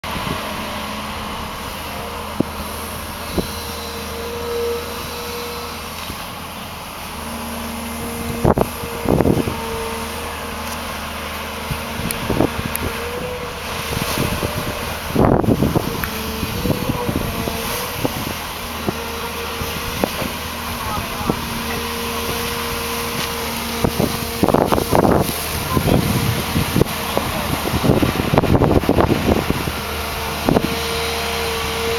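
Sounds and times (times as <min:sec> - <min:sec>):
excavator diesel engine under load: 0:00.0 - 0:31.9
hydraulic whine: 0:00.0 - 0:31.9.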